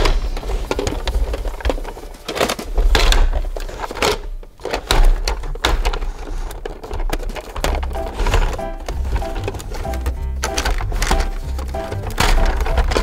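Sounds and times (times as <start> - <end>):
plastic toy clicking and rubbing: 0.0 - 13.0.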